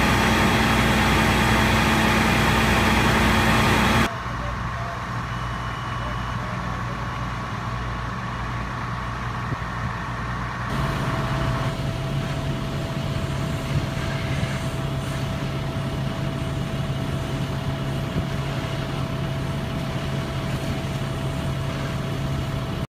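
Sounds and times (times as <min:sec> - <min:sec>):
fire truck engines humming: 0:00.0 - 0:22.9.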